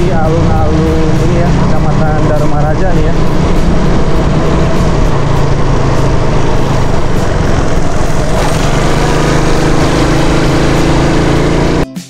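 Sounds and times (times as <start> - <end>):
motorcycle engine running: 0.0 - 11.9
wind rush over microphone: 0.6 - 10.4.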